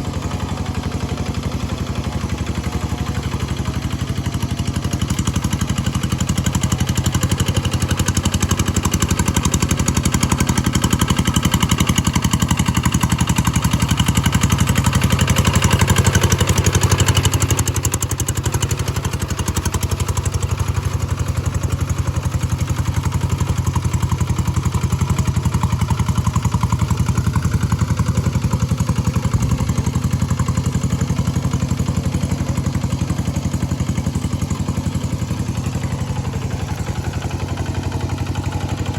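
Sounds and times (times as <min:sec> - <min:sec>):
hand tractor engine running: 0:00.0 - 0:38.9.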